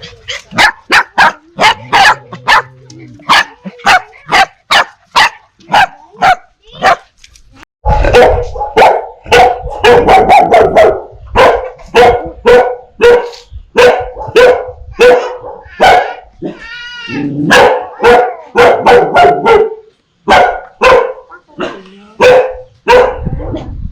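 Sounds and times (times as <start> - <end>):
dogs barking: 0.0 - 7.1, 7.9 - 16.6, 17.4 - 23.4.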